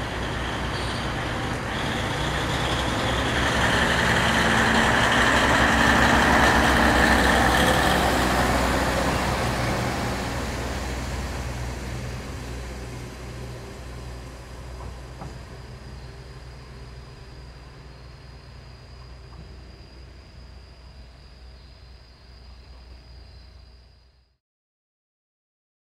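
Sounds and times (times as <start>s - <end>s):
diesel engine running: 0.0s - 21.5s
wheels rumbling on rail: 0.0s - 24.3s.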